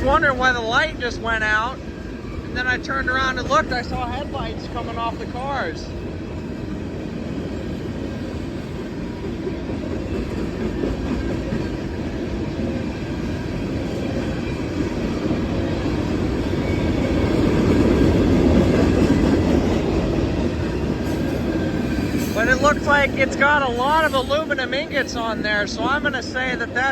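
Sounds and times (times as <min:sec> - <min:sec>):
freight train rumbling past: 0:00.0 - 0:26.9.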